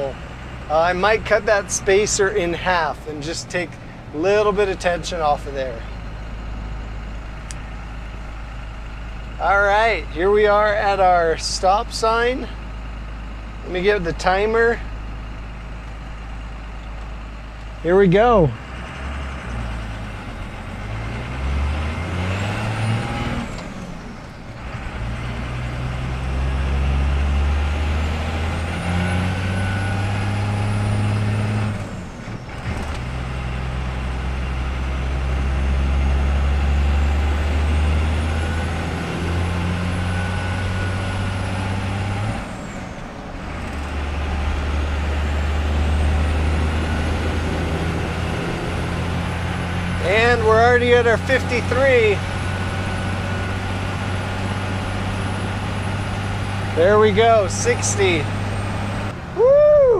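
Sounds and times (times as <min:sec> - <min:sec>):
diesel engine at full throttle: 0:00.0 - 0:59.9.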